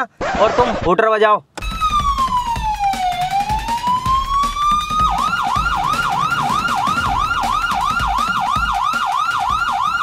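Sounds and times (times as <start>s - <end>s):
police siren wailing and yelping: 1.6s - 10.0s.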